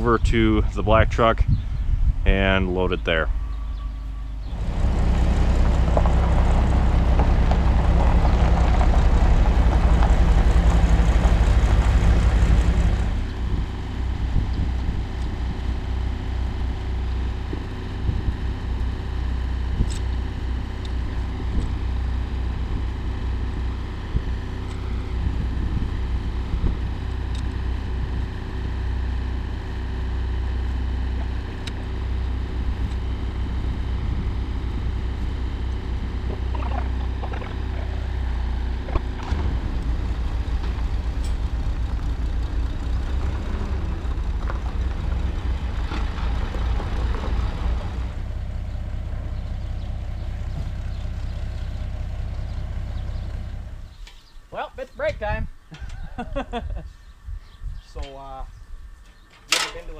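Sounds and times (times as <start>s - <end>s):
tractor engine idling: 2.3s - 54.2s.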